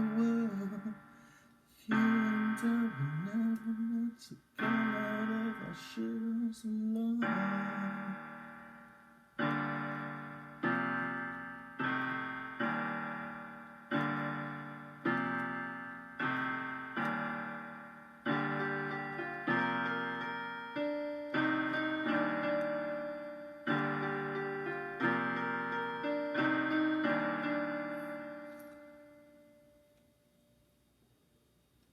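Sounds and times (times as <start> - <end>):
piano chords ringing: 0.0 - 30.8.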